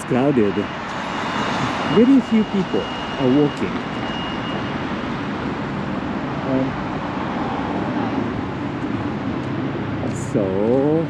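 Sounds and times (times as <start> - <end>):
passing cars: 0.0 - 11.0.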